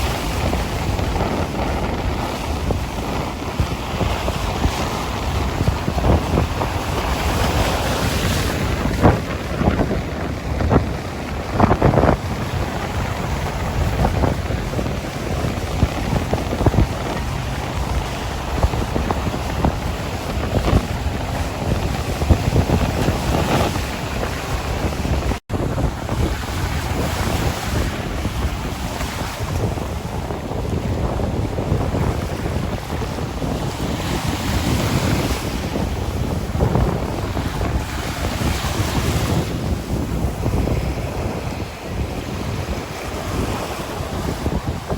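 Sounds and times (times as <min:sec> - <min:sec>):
waves splashing on shore: 0:00.0 - 0:44.9
wind on microphone: 0:00.0 - 0:44.9.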